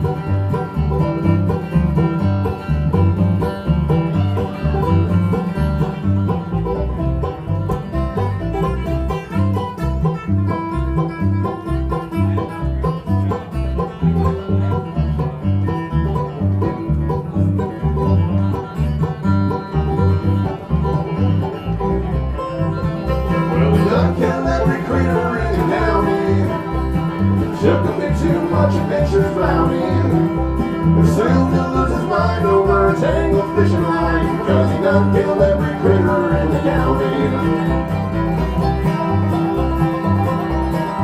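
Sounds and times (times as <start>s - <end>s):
acoustic guitar: 0.0s - 41.0s
banjo picking: 0.0s - 41.0s
upright bass beat: 0.0s - 41.0s.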